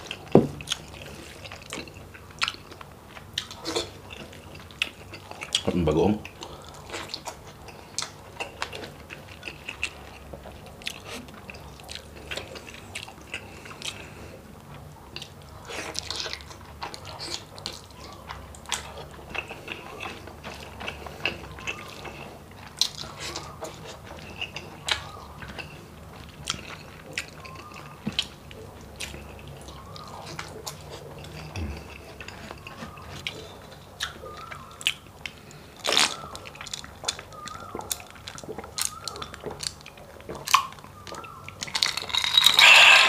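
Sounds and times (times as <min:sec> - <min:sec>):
wet chewing and lip smacks: 0:00.0 - 0:43.0.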